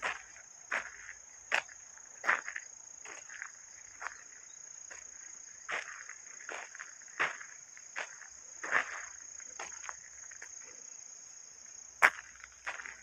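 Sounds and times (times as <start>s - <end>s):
footsteps on sandy dirt trail: 0.0s - 13.0s
high-pitched insect chorus: 0.0s - 13.0s.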